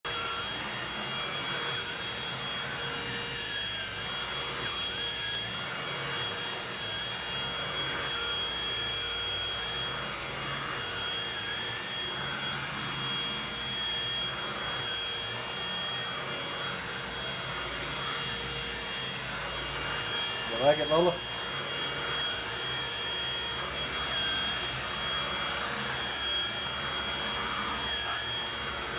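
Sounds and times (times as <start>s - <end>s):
handheld vacuum cleaner whining: 0.1s - 28.9s.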